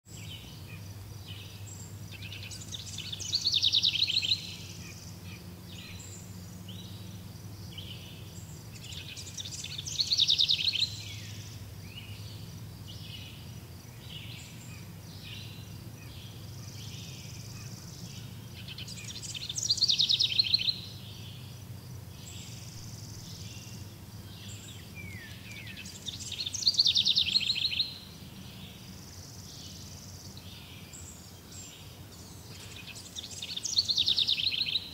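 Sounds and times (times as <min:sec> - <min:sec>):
steady low hum: 0:00.1 - 0:34.0
faint bird chirps: 0:00.1 - 0:34.9
bird singing trilled phrase: 0:00.7 - 0:13.4, 0:14.1 - 0:21.6, 0:22.3 - 0:28.0, 0:32.9 - 0:34.9.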